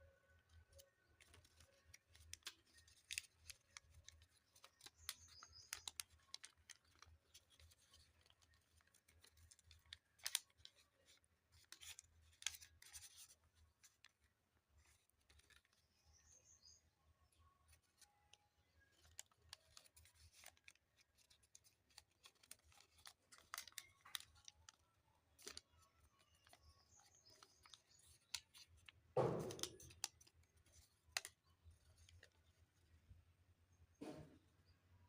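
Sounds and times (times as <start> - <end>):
paper crackling and rustling: 0.4 - 16.1, 17.6 - 32.9.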